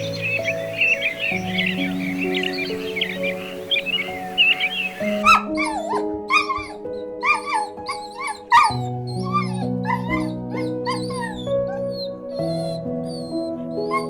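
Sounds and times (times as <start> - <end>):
calm instrumental music: 0.0 - 14.0.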